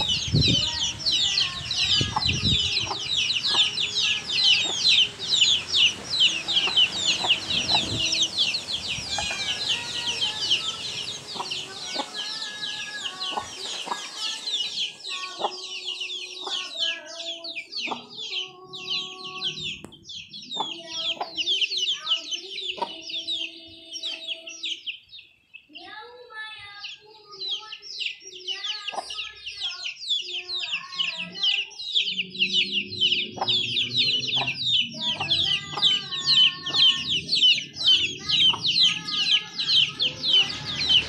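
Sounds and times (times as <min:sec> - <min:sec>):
hen clucking: 0:00.0 - 0:25.0, 0:26.9 - 0:41.0
chicks peeping: 0:00.0 - 0:41.0.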